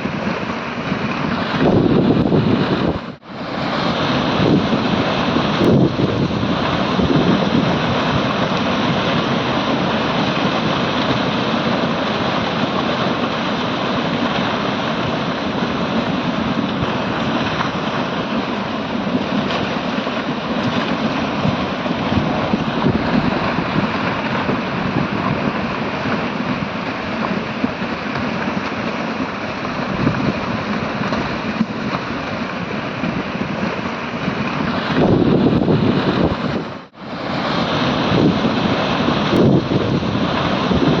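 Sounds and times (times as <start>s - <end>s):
churning stream water rushing: 0.0s - 41.0s.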